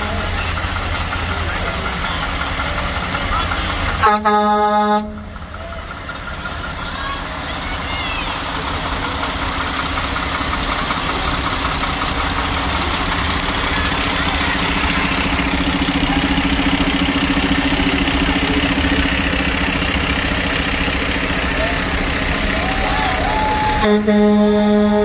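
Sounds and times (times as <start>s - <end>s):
heavy truck engine rumbling: 0.0s - 25.0s.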